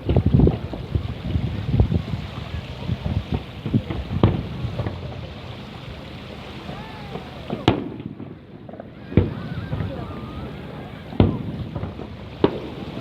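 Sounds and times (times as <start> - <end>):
fireworks bangs: 0.0 - 13.0
sharp firework crack: 0.0 - 13.0
steady noisy background: 0.0 - 13.0.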